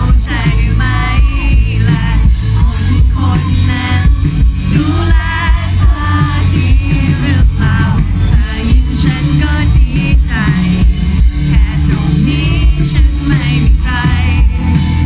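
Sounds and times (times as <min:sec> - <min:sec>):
bass: 0:00.0 - 0:15.0
drums: 0:00.0 - 0:15.0
electric guitar: 0:00.0 - 0:15.0
lead vocalist singing: 0:00.0 - 0:15.0.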